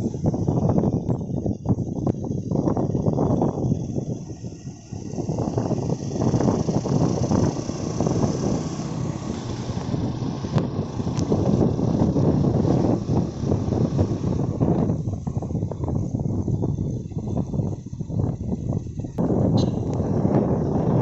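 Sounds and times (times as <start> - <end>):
road rumble: 0.0 - 21.0
wind buffeting microphone: 0.0 - 21.0.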